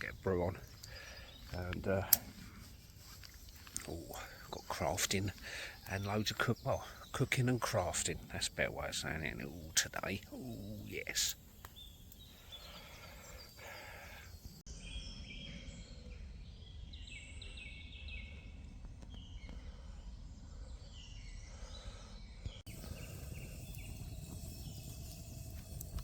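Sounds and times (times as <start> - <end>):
wild birds chirping and trilling: 0.0 - 26.0.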